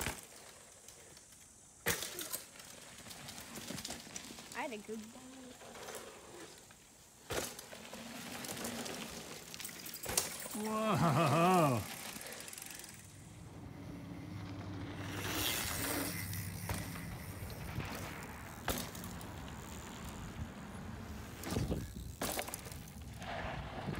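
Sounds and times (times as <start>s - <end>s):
bike tyres on gravel: 0.0s - 23.9s.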